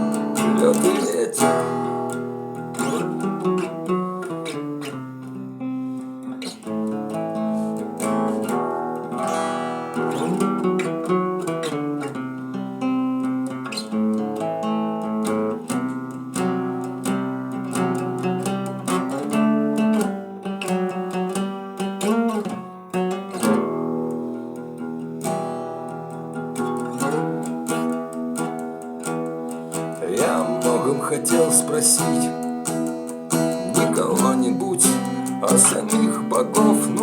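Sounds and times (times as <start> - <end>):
acoustic guitar playing chords: 0.0 - 37.0.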